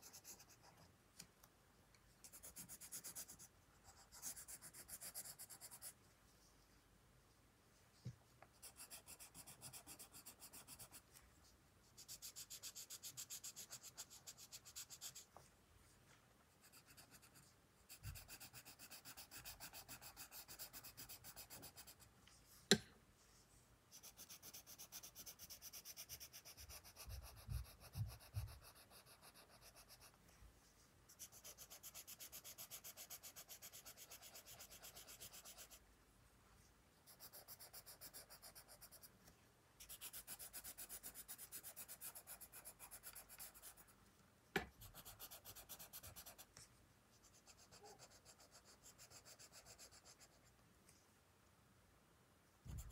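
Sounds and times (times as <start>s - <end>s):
colored pencil scratching on paper: 0.0s - 0.9s, 2.2s - 6.4s, 8.0s - 22.1s, 23.9s - 35.8s, 37.0s - 39.2s, 39.8s - 44.0s, 44.6s - 50.6s, 52.7s - 52.9s.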